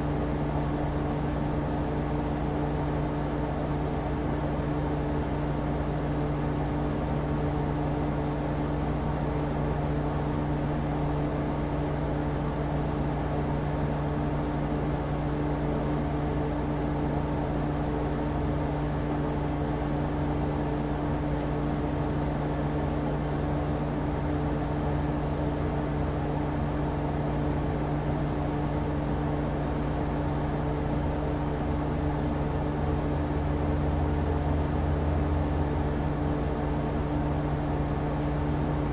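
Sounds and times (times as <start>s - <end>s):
air conditioner humming: 0.0s - 38.9s.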